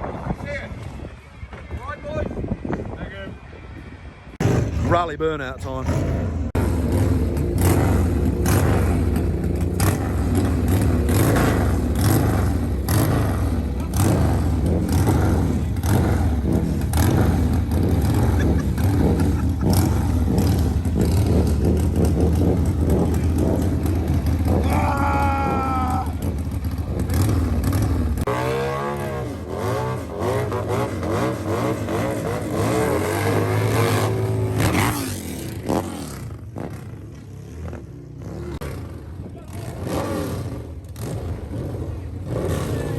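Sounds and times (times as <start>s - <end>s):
motorcycle engine revving: 4.4s - 42.9s.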